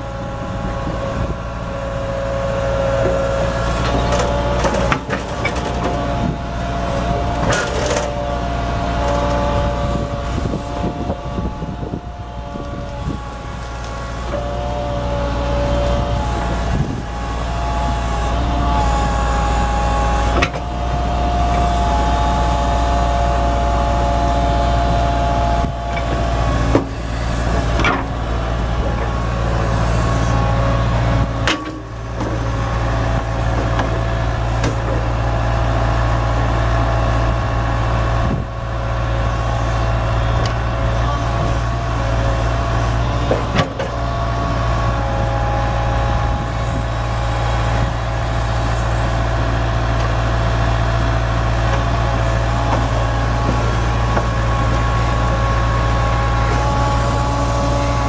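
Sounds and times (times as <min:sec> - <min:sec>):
diesel engine running: 0:00.0 - 0:58.0
hydraulic whine: 0:00.0 - 0:58.0.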